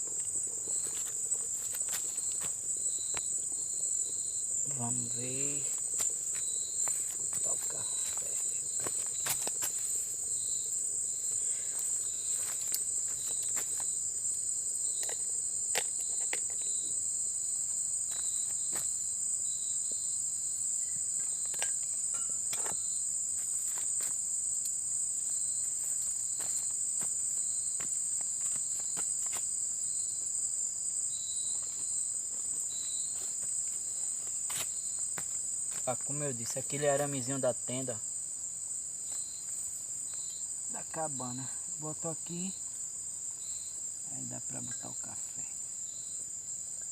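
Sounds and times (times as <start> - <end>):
high-pitched insect chorus: 0.0 - 46.9
lower pulsing insect call: 0.0 - 46.9.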